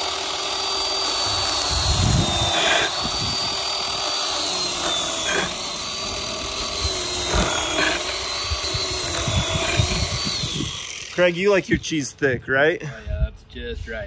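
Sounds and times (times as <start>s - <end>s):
electric chainsaw cutting cheese: 0.0s - 11.7s.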